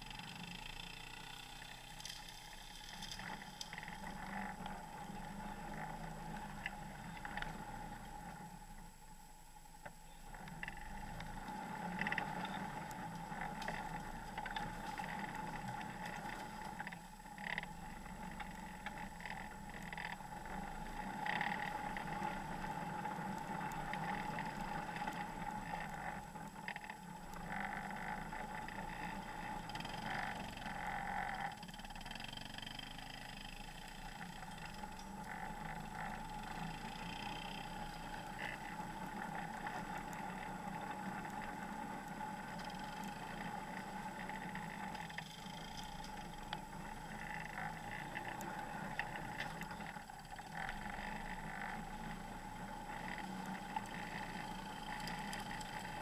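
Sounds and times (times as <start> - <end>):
constant whine: 0.0 - 56.0
off-road vehicle engine running: 0.0 - 56.0.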